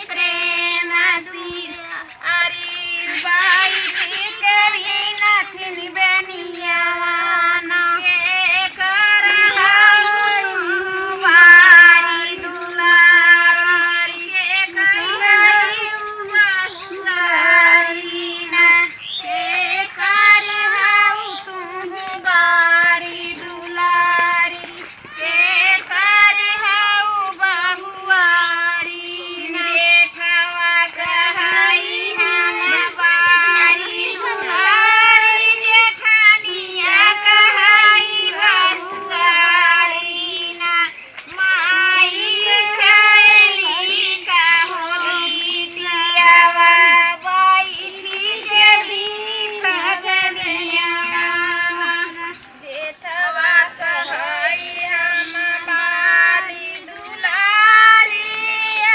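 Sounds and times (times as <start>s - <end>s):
women singing folk song: 0.0s - 58.9s.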